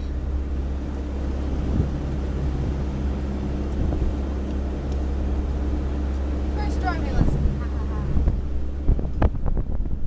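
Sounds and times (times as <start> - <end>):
motorboat engine running: 0.0 - 10.0
water noise: 0.0 - 10.0
wind: 0.0 - 10.0.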